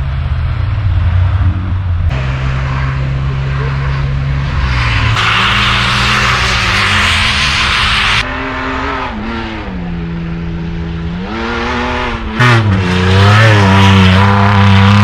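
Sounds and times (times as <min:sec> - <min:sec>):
loud rush of noise: 0:00.0 - 0:12.5
off-road vehicle engine revving: 0:00.0 - 0:15.0.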